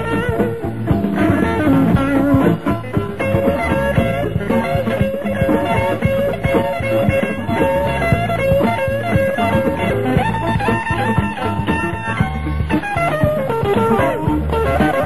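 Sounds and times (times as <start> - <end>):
bass: 0.0 - 15.0
electric guitar: 0.0 - 15.0
steady drum beat: 0.0 - 15.0.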